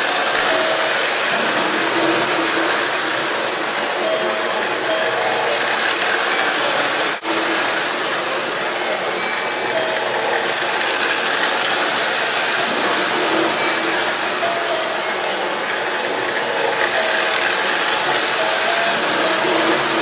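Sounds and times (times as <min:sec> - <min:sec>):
train rattling and humming: 0:00.0 - 0:20.0.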